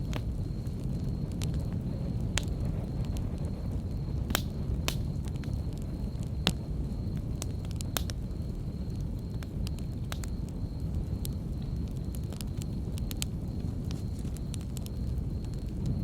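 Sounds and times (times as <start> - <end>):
campfire rumble: 0.0 - 16.0
logs crackling and popping: 0.0 - 16.0.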